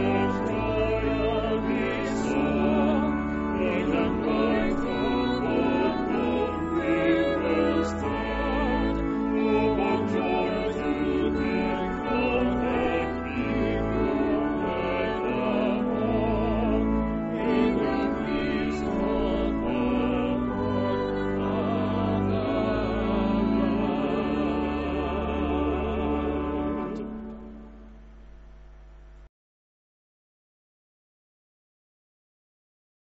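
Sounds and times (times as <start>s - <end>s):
choir singing a hymn: 0.0s - 27.7s.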